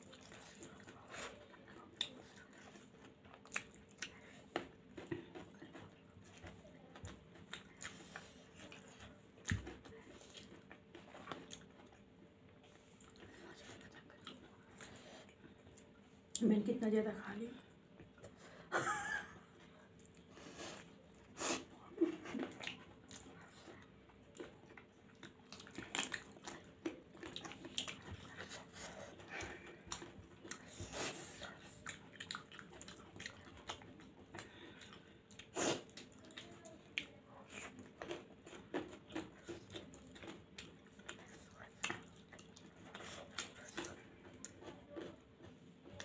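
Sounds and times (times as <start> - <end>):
chewing and lip smacking: 0.0 - 16.4, 19.6 - 46.0.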